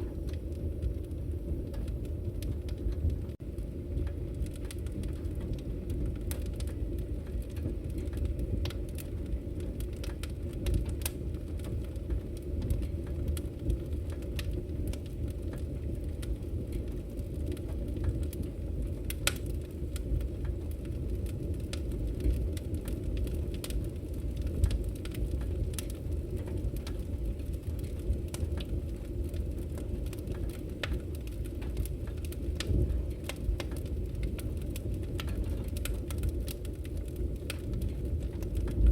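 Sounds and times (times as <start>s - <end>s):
fire crackling and popping: 0.0s - 38.9s
wood stove fire rumbling: 0.0s - 38.9s.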